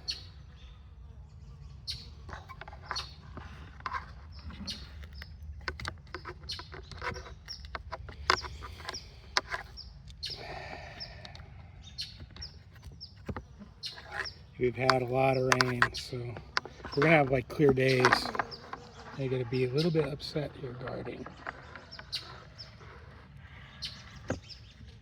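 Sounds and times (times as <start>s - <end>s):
birds chirping: 0.0s - 25.0s
handling clicks and knocks: 2.3s - 11.4s, 12.1s - 23.4s, 24.0s - 24.9s.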